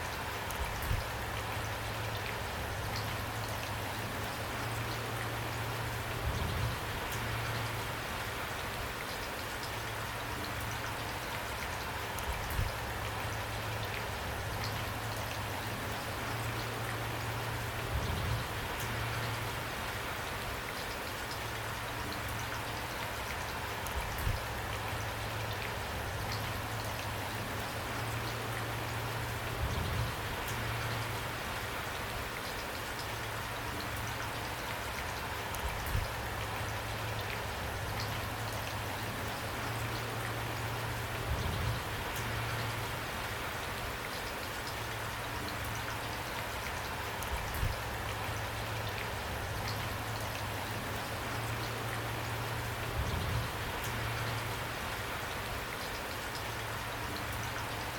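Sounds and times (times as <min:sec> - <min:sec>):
rain pattering on a surface: 0:00.0 - 0:57.9.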